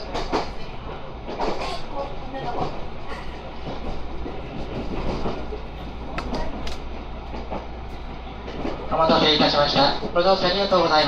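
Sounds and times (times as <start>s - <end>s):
wheels rumbling on rail: 0.0s - 11.0s.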